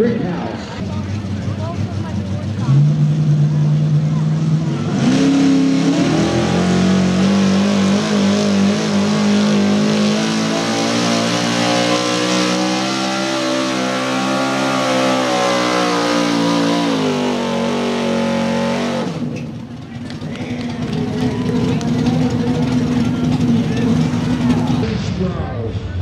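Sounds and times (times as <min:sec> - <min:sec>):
truck engine at full throttle: 0:00.0 - 0:26.0.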